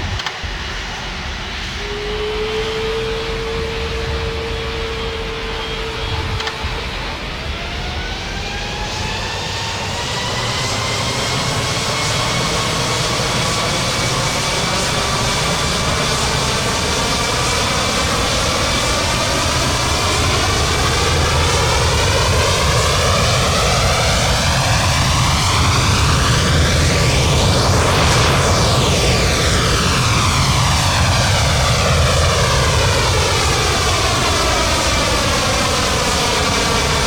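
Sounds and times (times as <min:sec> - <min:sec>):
heavy jet engine rumble: 0:00.0 - 0:37.0
jet engine whine: 0:00.0 - 0:37.0.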